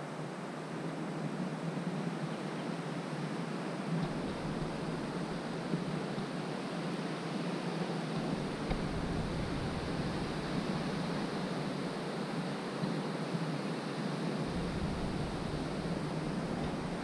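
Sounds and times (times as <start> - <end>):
wind rumble on microphone: 0.2 - 17.0.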